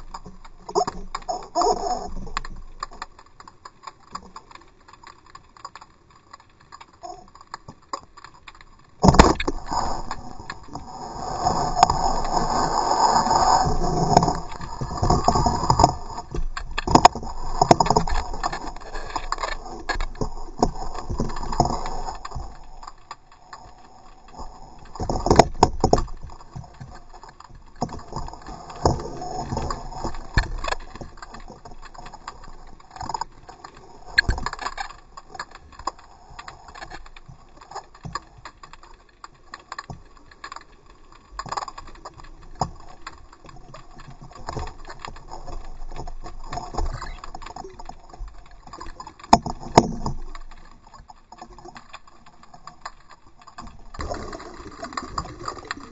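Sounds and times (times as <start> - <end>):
rattling scraping and clicking: 0.0 - 55.9.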